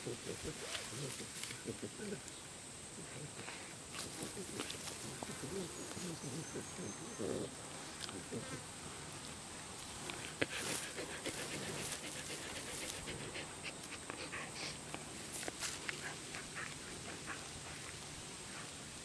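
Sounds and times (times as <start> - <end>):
high insect buzz: 0.0 - 19.0.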